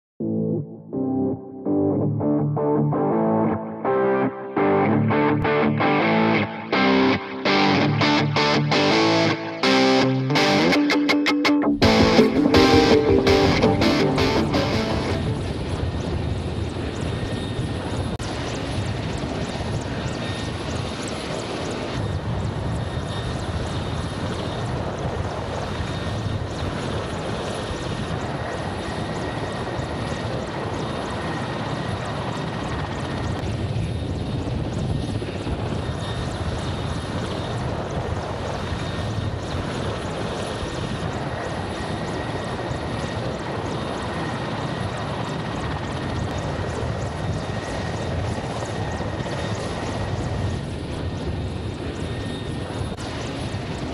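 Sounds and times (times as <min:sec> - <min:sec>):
high turbine whine: 0:01.4 - 0:53.9
helicopter rotor and engine noise: 0:03.3 - 0:53.9.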